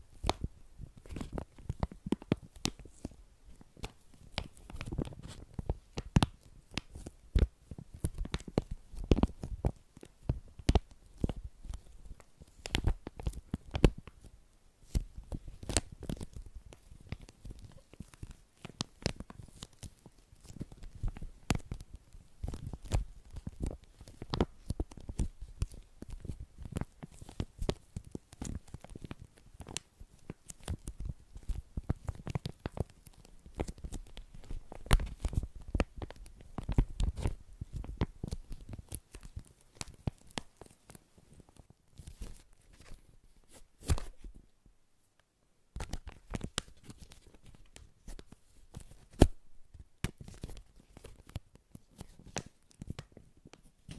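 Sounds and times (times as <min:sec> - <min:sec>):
close crackling: 0:00.1 - 0:53.9.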